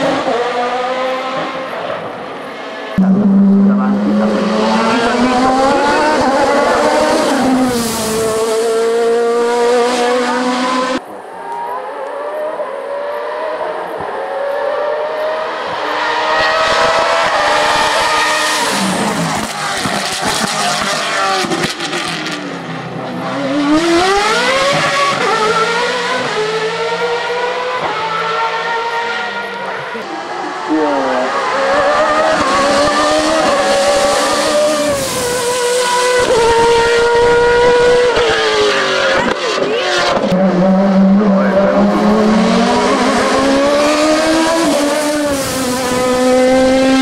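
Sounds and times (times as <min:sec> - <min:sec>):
racing car engines at high revs: 0:00.0 - 0:47.0.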